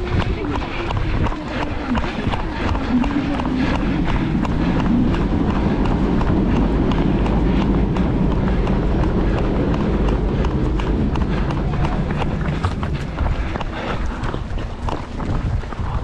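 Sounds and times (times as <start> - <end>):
low rumble: 0.0 - 16.0
running footsteps on pavement: 0.0 - 16.0.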